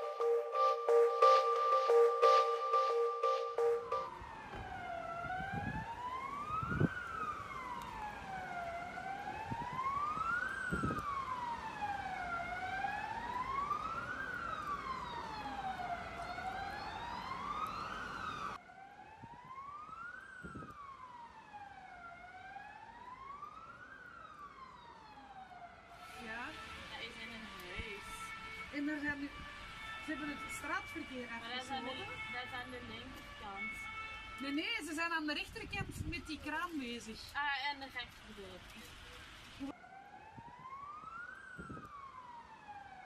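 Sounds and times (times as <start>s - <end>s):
emergency vehicle siren wailing: 0.0s - 37.9s, 39.3s - 43.0s.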